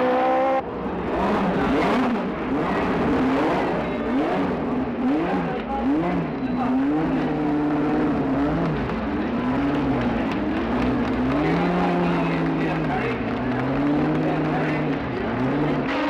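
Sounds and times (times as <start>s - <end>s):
racing car engine revving: 0.0s - 16.0s.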